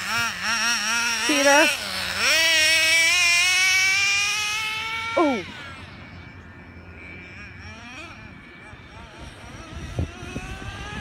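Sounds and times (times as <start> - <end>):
rc truck engine screaming: 0.0 - 11.0.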